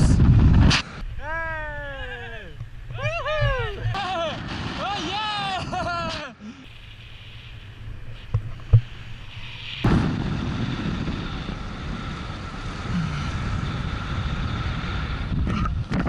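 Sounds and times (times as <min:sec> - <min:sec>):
wind rushing over microphone: 0:00.0 - 0:06.1, 0:07.9 - 0:16.0.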